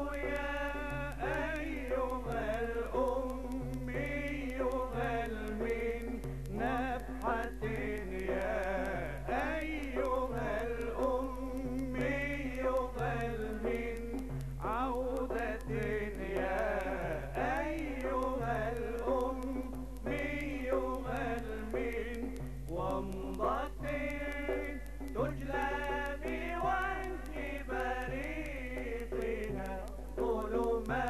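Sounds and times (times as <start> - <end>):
men chanting: 0.0 - 31.0.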